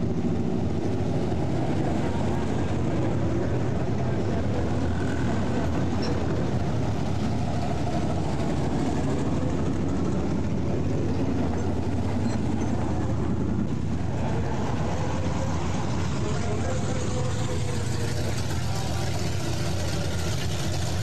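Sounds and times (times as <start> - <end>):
race car engines rumbling: 0.0 - 21.0.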